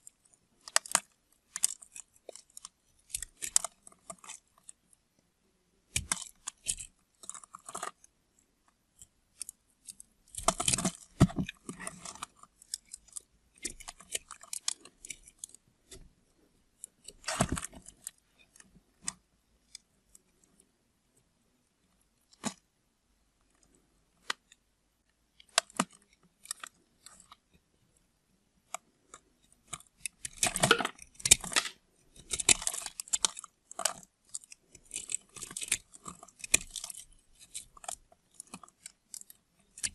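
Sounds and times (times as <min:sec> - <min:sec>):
knife cutting soap: 0:00.0 - 0:20.7, 0:28.6 - 0:39.9.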